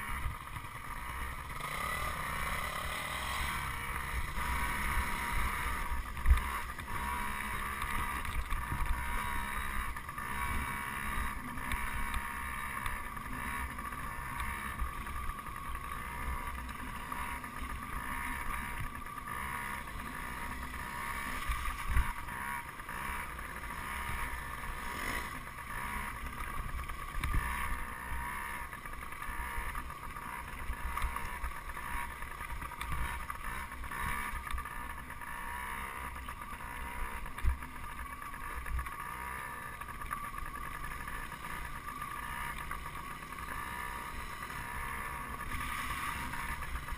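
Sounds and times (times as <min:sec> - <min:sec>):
dirt bike engine drone: 0:00.0 - 0:46.9.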